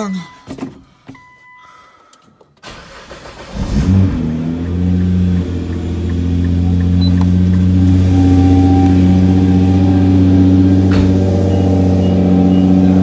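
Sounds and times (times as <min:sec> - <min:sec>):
car engine starting and idling: 0:02.2 - 0:13.0.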